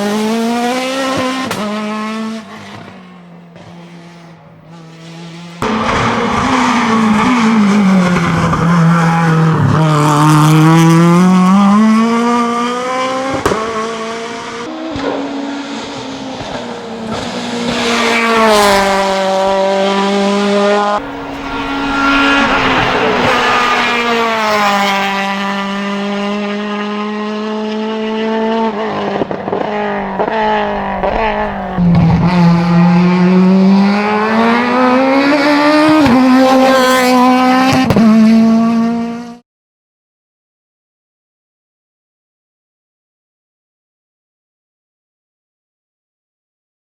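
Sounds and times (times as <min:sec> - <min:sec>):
race car engine revving: 0:00.0 - 0:39.4.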